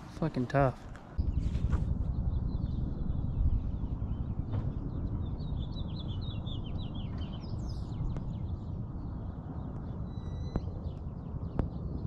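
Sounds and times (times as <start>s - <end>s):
steady low rumble: 0.0s - 12.0s
small birds chirping: 0.3s - 12.0s.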